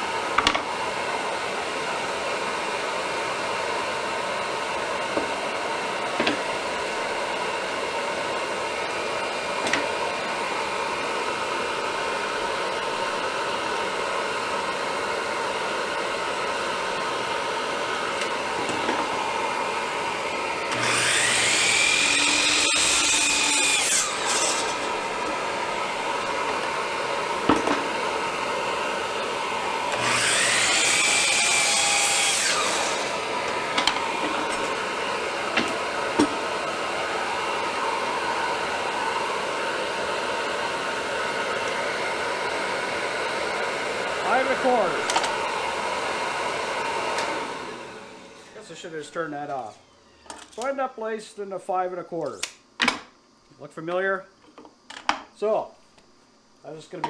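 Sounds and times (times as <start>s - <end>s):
miter saw whining and cutting: 0.0s - 48.9s
shop machine hum: 0.1s - 48.7s.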